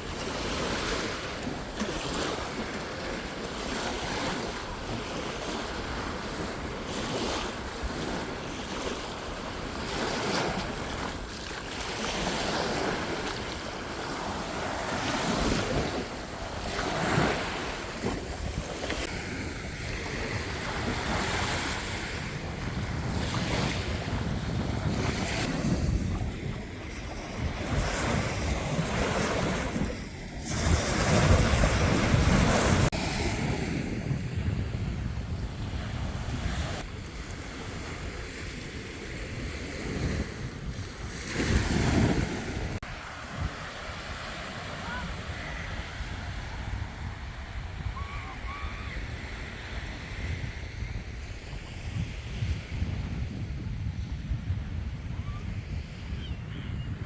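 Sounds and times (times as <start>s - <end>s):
surf washing on shore: 0.0s - 56.2s
wind buffeting microphone: 0.0s - 57.0s.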